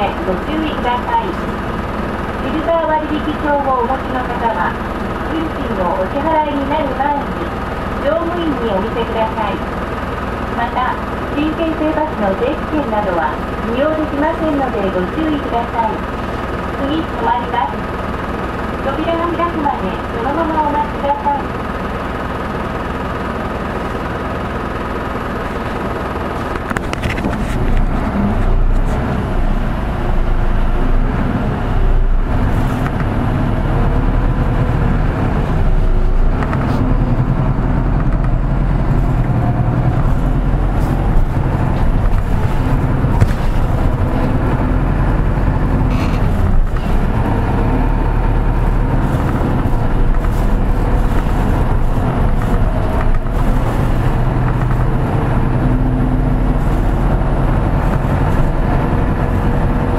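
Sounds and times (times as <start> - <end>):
bus body rattles and knocks: 0.0 - 29.6, 30.5 - 59.9
bus diesel engine running: 0.0 - 59.9
road noise: 0.0 - 59.9.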